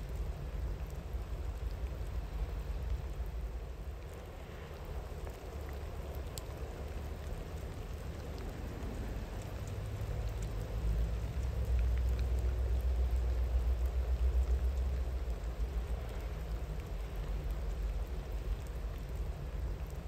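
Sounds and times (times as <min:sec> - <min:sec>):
steady rain: 0:00.0 - 0:20.0
water dripping: 0:00.0 - 0:20.0.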